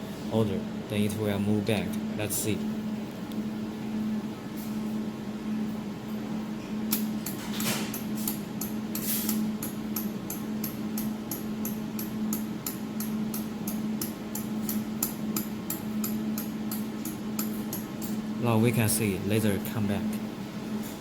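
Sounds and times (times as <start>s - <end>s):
machine chiller hum: 0.0s - 21.0s.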